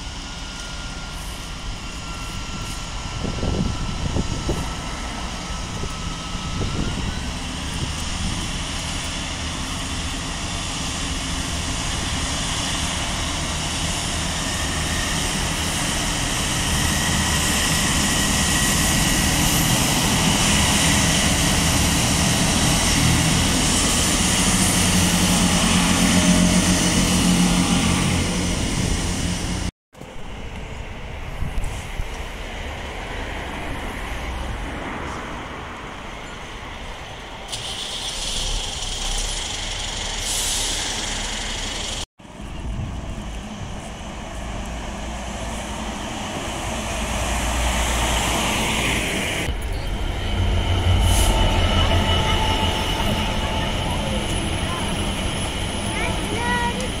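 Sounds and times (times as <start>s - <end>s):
train engine rumbling with whine: 0.0s - 57.0s.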